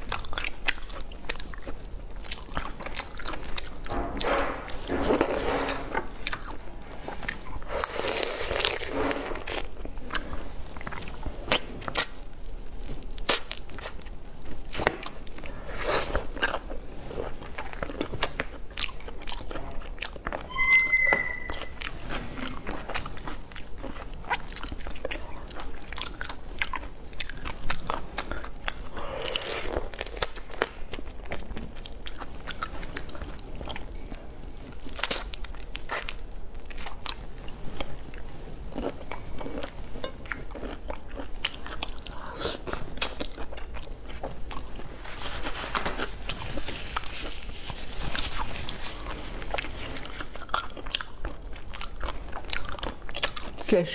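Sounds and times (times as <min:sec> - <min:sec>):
wet chewing: 0:00.0 - 0:20.5, 0:21.4 - 0:53.8.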